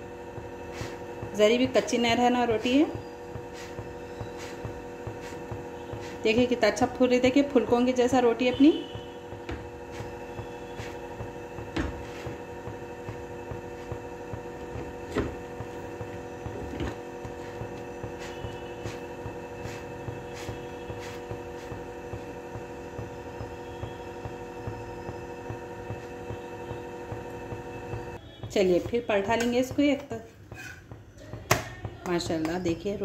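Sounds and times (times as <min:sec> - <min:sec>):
steady tonal hum: 0:00.0 - 0:29.6.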